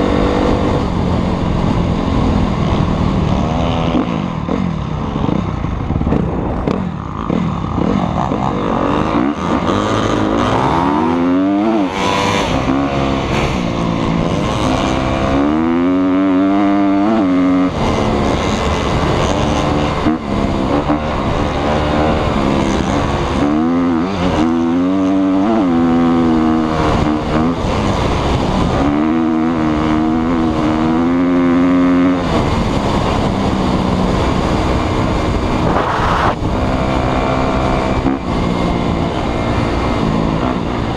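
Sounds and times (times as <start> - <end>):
motocross motorcycle engine revving: 0.0 - 40.9.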